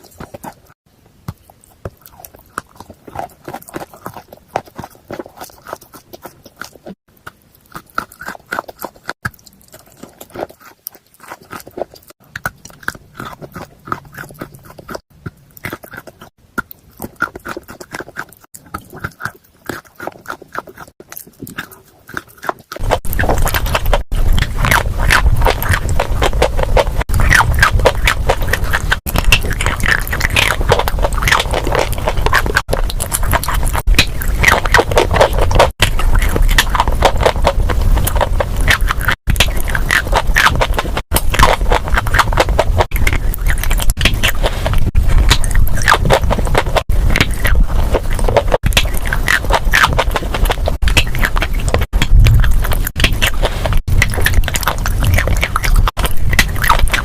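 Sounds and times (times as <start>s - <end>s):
crunching and chewing chalk: 0.0s - 57.0s.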